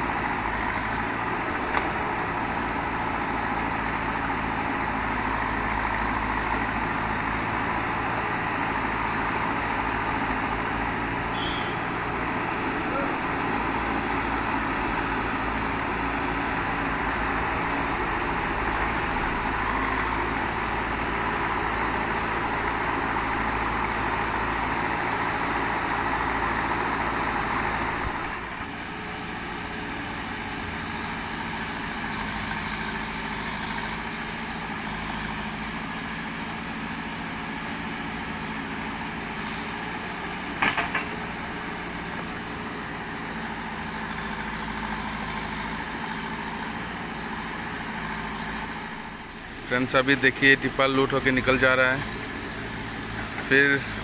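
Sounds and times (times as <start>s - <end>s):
backhoe diesel engine working: 0.0s - 54.0s.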